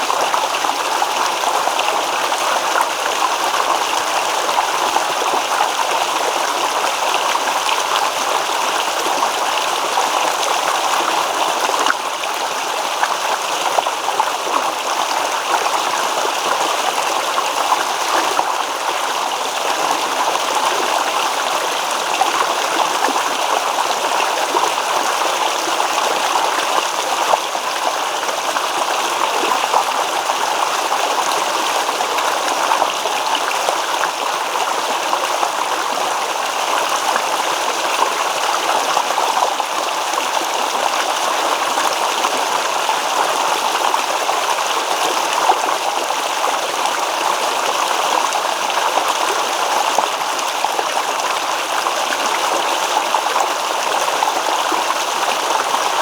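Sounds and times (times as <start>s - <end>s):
stream rippling over stones: 0.0s - 56.0s.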